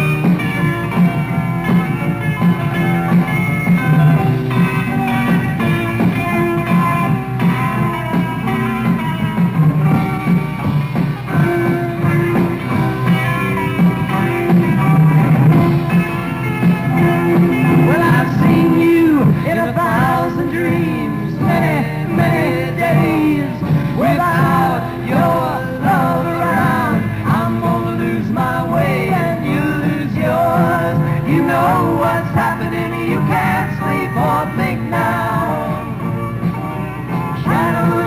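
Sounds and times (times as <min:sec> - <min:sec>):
electric guitar lead bends: 0:00.0 - 0:38.0
live rock band playing: 0:00.0 - 0:38.0.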